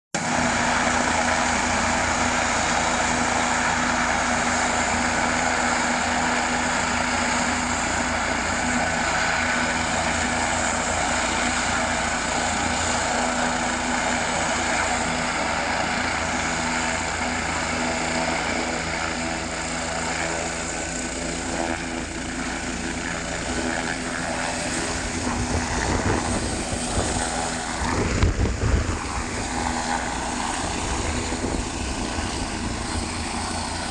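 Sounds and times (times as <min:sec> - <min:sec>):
helicopter engine whine: 0:00.2 - 0:33.9
rotor blades beating: 0:00.2 - 0:33.9.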